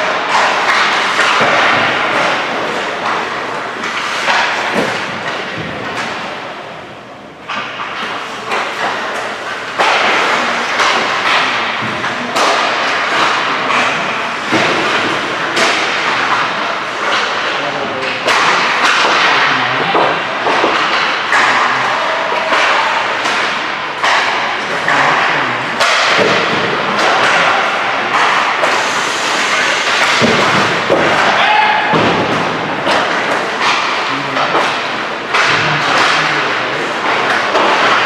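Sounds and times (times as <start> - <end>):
puck thudding against boards: 0.0 - 6.4, 7.4 - 38.0
sticks and pucks cracking: 0.0 - 6.6, 7.4 - 38.0.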